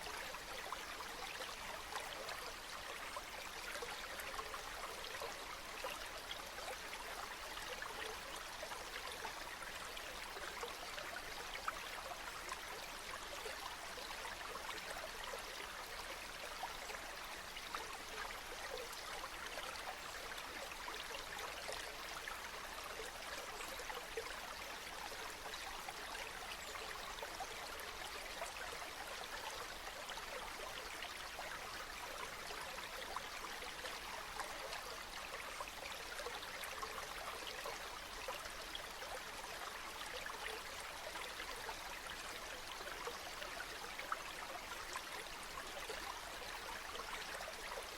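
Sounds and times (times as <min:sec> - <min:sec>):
brook babbling over stones: 0:00.0 - 0:47.9.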